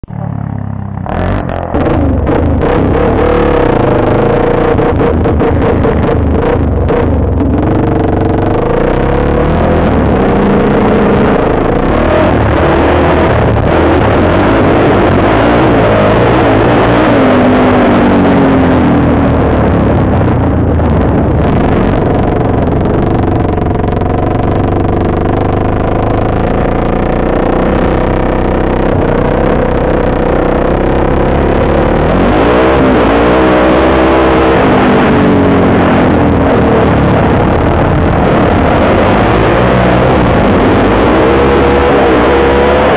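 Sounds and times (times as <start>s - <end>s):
off-road vehicle engine revving: 0.0s - 42.9s
wind on microphone: 1.0s - 42.9s.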